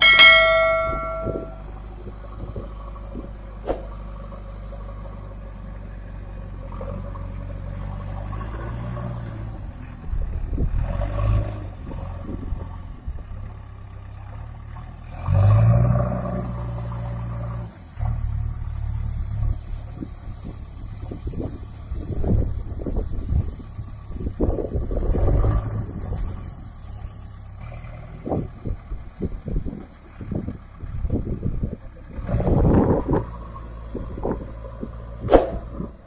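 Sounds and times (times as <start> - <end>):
diesel engine revving: 0.0 - 36.0.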